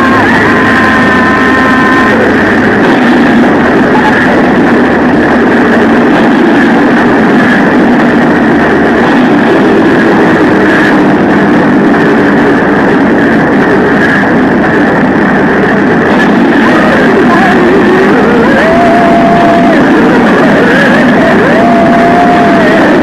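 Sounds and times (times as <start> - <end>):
distorted noise music: 0.0 - 23.0
heavy low drone: 0.0 - 23.0.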